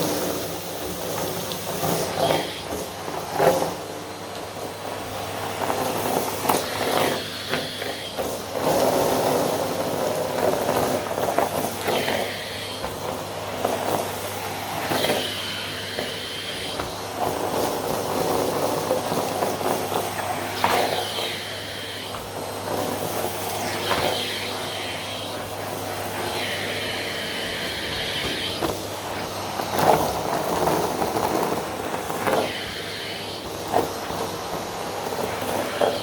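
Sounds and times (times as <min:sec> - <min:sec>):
vacuum cleaner on carpet: 0:00.0 - 0:36.0.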